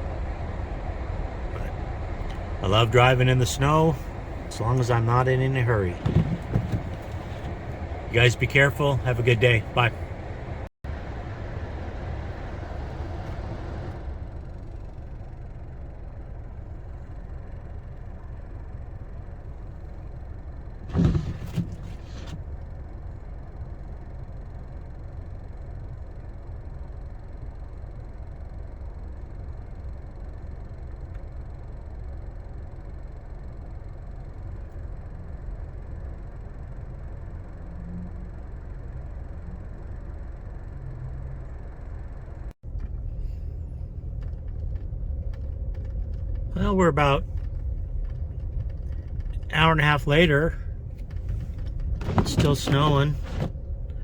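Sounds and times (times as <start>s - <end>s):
car cabin rumble: 0.0s - 23.7s, 32.4s - 54.0s.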